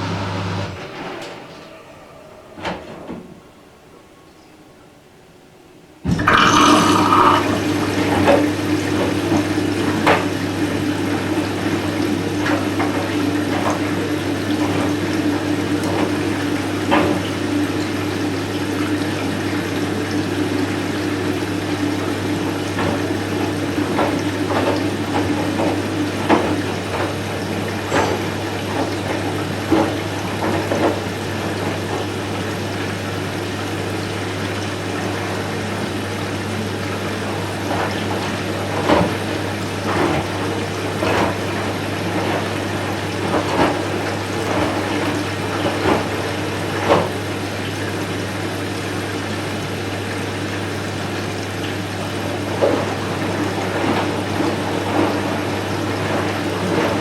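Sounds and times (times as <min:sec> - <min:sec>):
water rushing into washing machine: 0:00.0 - 0:03.7, 0:06.0 - 0:57.0
washing machine hum: 0:00.0 - 0:57.0.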